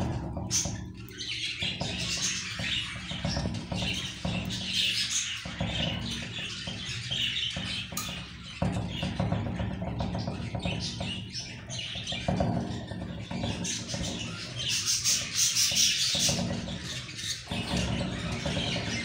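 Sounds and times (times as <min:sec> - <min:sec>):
budgerigars chattering and chirping: 0:00.0 - 0:19.0.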